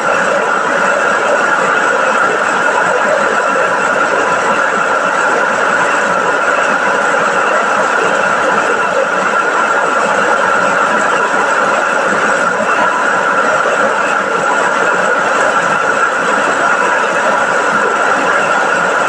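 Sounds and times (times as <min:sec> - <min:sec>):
rice milling machine whirring: 0:00.0 - 0:19.0.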